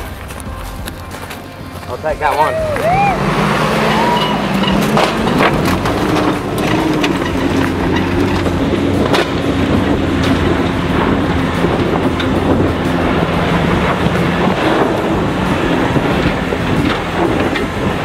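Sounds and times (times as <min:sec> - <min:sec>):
engine droning uphill: 0:00.0 - 0:18.0
tyres spinning in dirt: 0:00.0 - 0:18.0.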